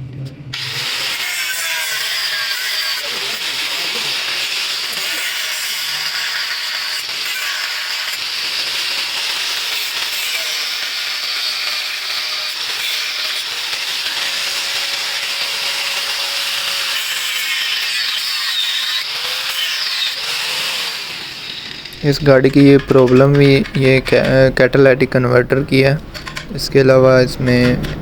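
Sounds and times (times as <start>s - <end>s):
angle grinder cutting metal: 0.5s - 24.5s.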